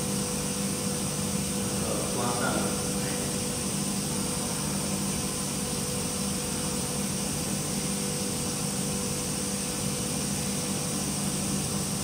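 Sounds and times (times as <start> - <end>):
machine hum with hiss: 0.0 - 12.0.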